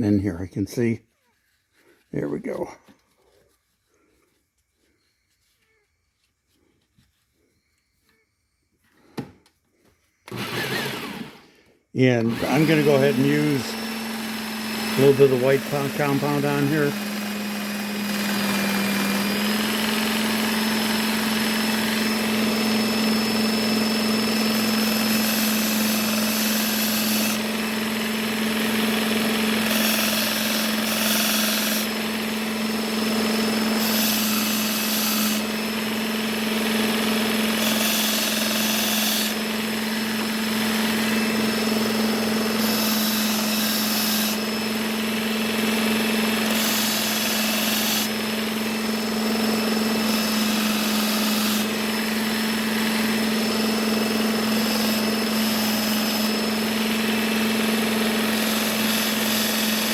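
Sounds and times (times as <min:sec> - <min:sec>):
belt sharpener motor humming: 0:10.3 - 0:59.9.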